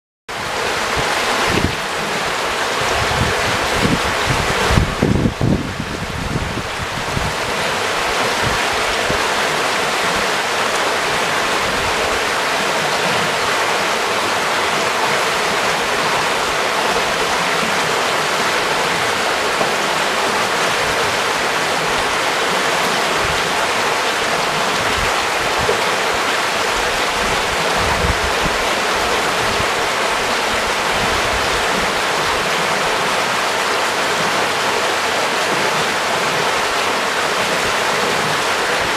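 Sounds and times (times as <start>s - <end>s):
river flowing over rocks: 0.3s - 38.9s.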